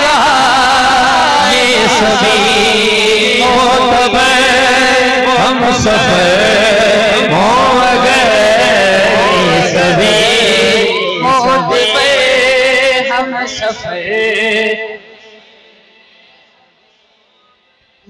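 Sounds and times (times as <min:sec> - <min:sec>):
man singing long wavering notes: 0:00.0 - 0:15.4.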